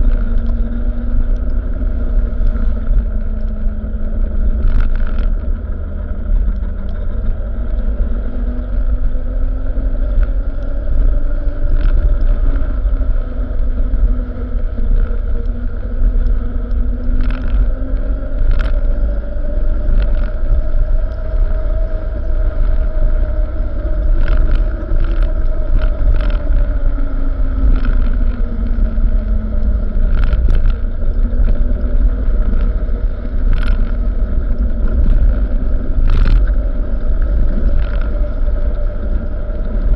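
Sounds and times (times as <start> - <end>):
road rumble: 0.0 - 39.9
sharp clicks and rattles: 0.0 - 39.9.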